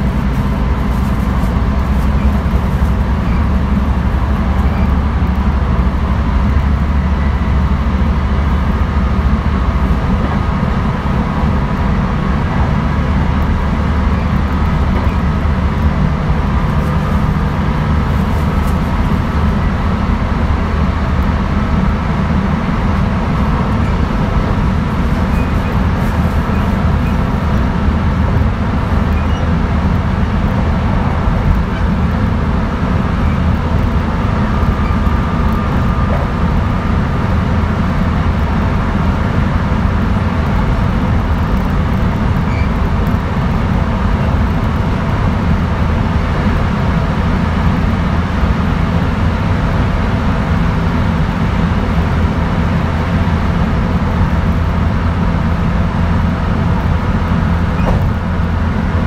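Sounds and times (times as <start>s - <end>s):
electric train wheels rumbling: 0.0s - 59.0s.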